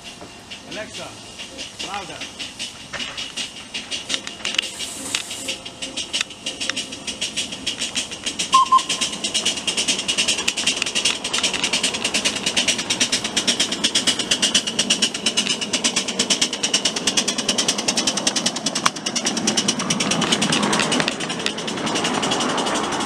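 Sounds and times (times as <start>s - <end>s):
miniature locomotive clattering on track: 0.0s - 23.0s
rough rolling noise: 0.0s - 23.0s.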